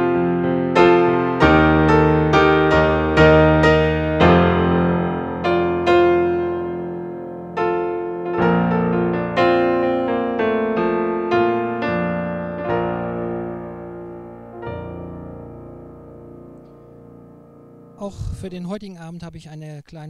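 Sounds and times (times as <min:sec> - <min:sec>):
slow gentle piano music: 0:00.0 - 0:18.2.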